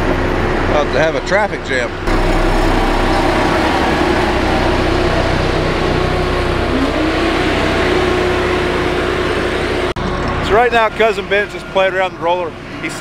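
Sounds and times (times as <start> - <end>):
diesel engine hum: 0.0 - 13.0.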